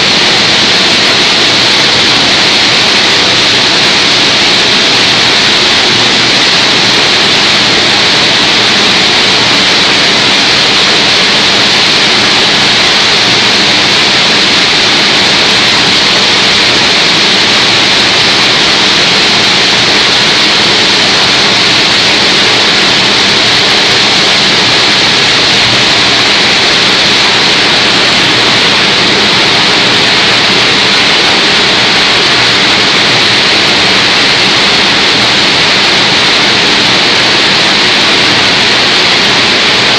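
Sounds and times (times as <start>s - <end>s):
hydraulic baler hissing: 0.0s - 39.9s.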